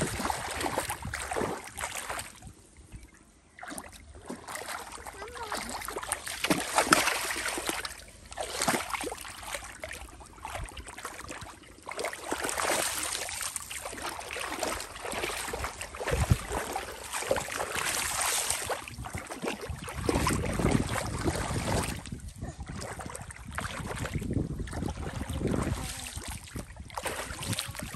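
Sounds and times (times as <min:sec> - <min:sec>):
muddy water splashing: 0:00.0 - 0:27.9.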